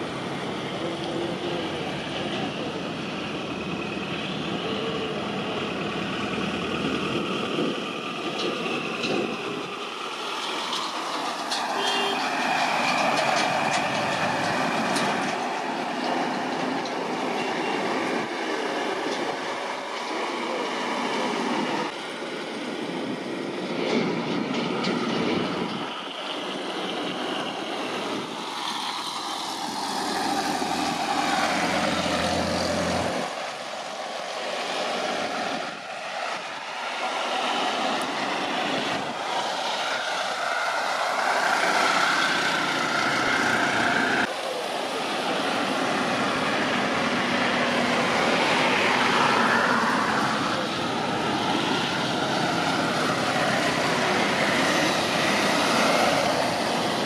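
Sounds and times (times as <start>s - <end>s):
jet engines roaring with whine: 0.0s - 57.0s.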